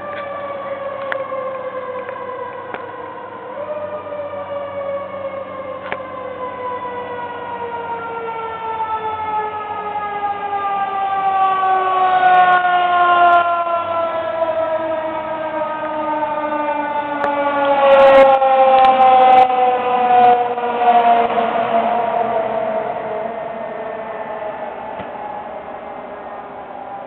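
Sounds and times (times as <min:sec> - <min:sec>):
second siren tone: 0:00.0 - 0:27.0
siren wailing: 0:00.0 - 0:27.0.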